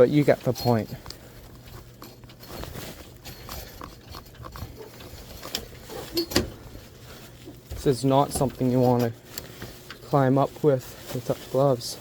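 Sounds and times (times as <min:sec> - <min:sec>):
handling knocks and rustling: 0:00.0 - 0:12.0.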